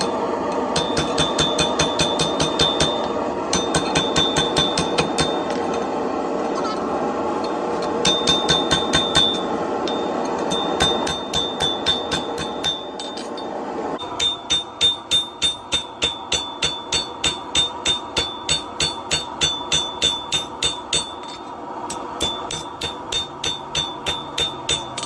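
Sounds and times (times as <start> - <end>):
hammer striking hot steel on anvil: 0.0 - 6.0, 7.4 - 25.0.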